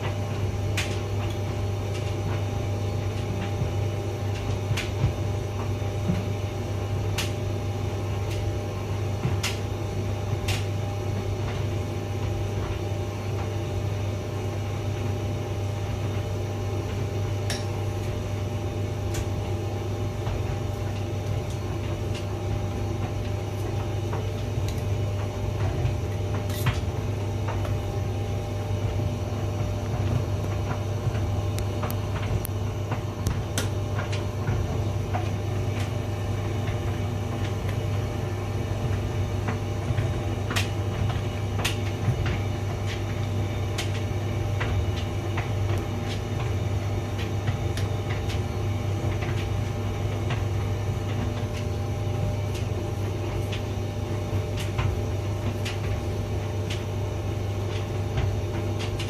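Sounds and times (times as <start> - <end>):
tumble dryer motor hum: 0.0 - 59.0.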